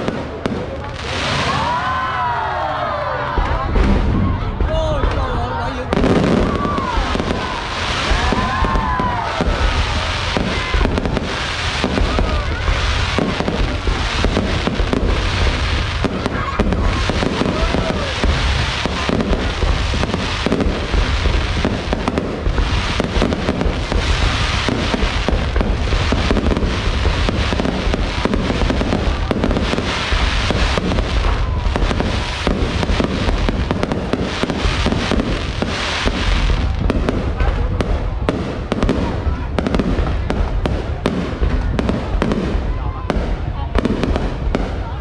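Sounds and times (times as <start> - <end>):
dense crackling and popping: 0.0 - 45.0.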